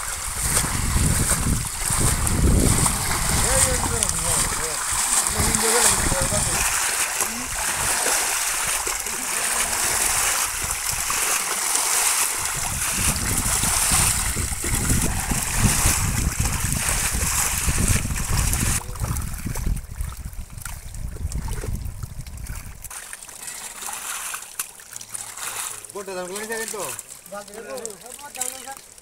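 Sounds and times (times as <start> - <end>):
muddy water splashing and pouring: 0.0 - 29.0.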